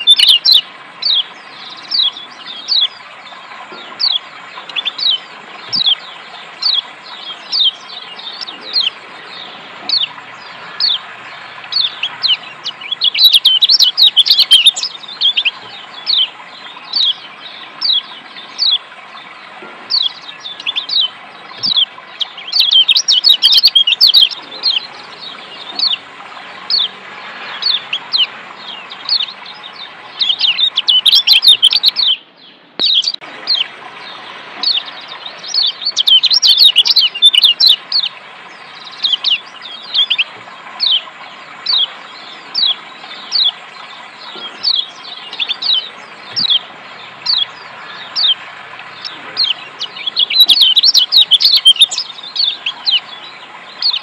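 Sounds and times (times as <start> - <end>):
bird chirping: 0.0 - 54.0
water rushing: 0.0 - 54.0.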